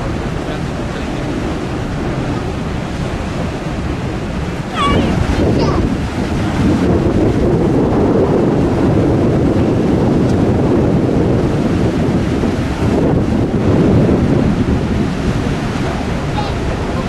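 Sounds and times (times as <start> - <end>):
churning propeller wash: 0.0 - 17.0
low rumble: 0.0 - 17.0
wind buffeting microphone: 0.0 - 17.0.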